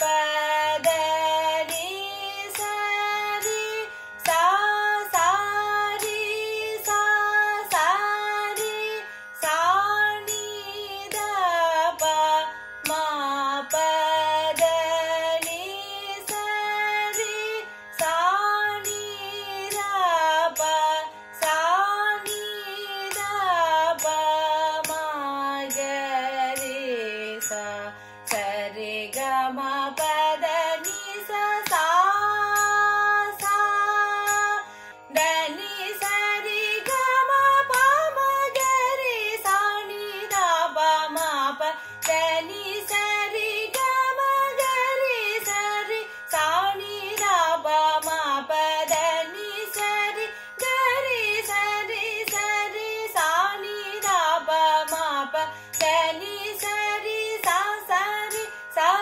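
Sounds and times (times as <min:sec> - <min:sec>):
woman singing vocal exercise: 0:00.0 - 0:17.2, 0:18.0 - 0:59.0.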